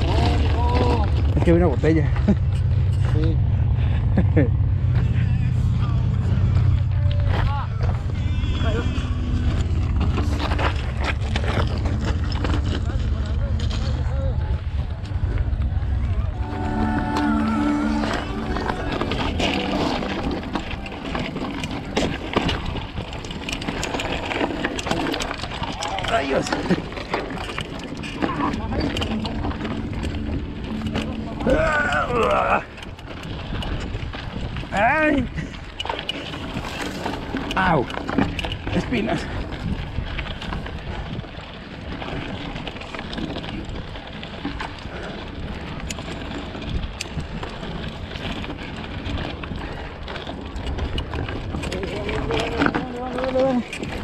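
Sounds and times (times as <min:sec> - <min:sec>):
bike rattling: 0:00.0 - 0:54.0
tyres crunching over stones: 0:04.9 - 0:16.5, 0:17.2 - 0:54.0
wind on microphone: 0:04.9 - 0:54.0.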